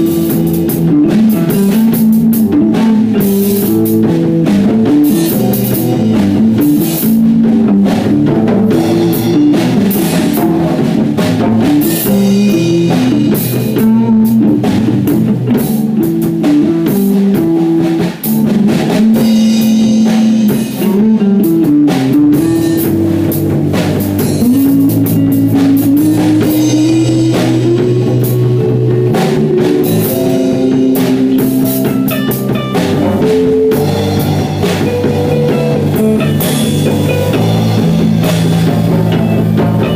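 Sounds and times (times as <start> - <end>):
drum kit and cymbals: 0.0 - 39.9
electric guitar: 0.0 - 39.9.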